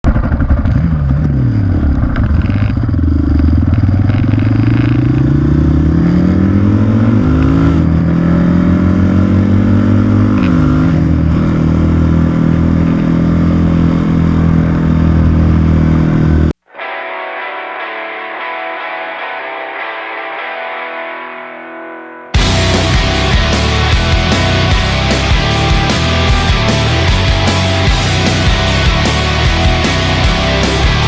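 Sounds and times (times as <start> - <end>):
motorcycle engine accelerating: 0.0 - 16.6, 22.4 - 31.0.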